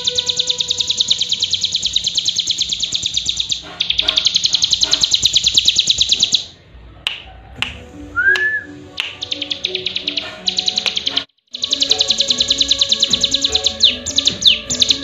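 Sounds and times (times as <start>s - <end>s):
songbird buzzy trill: 0.0s - 6.6s, 8.2s - 15.0s.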